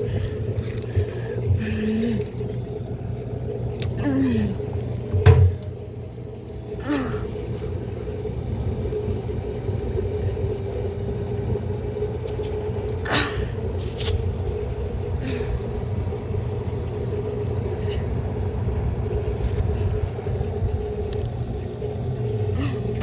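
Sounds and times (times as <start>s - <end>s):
washing machine rumbling: 0.0s - 23.0s.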